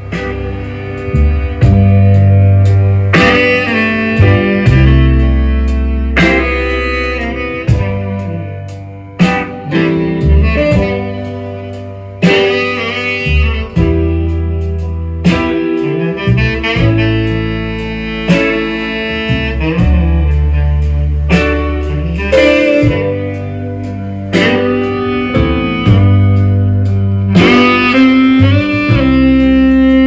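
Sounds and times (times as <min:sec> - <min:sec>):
band music through loudspeakers: 0:00.0 - 0:30.0.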